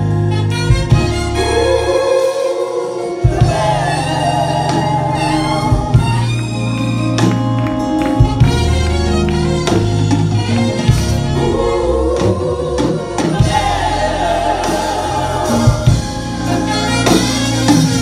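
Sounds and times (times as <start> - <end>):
band with bass and drums: 0.0 - 18.0
gospel voices singing: 1.1 - 7.0, 8.0 - 18.0.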